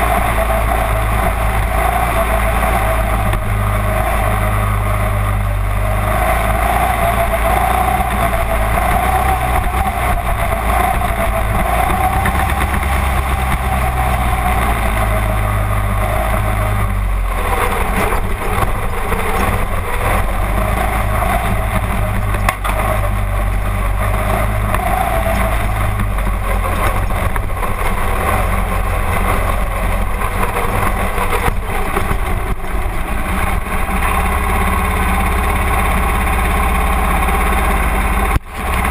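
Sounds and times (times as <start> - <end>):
race car engine running: 0.0 - 38.9.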